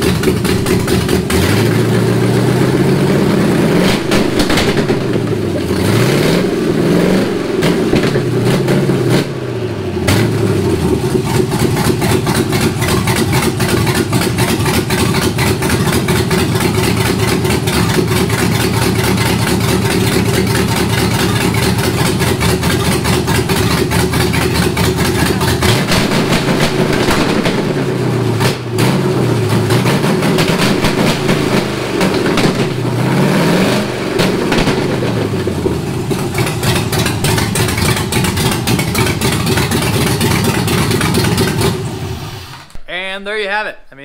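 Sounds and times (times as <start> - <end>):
engine idling and revving: 0.0 - 42.7.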